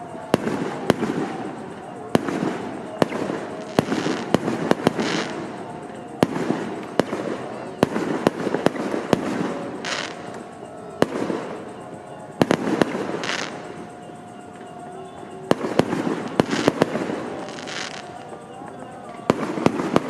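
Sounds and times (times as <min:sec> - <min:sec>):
fireworks hissing burst: 0:00.0 - 0:18.4
fireworks banging: 0:00.0 - 0:20.0.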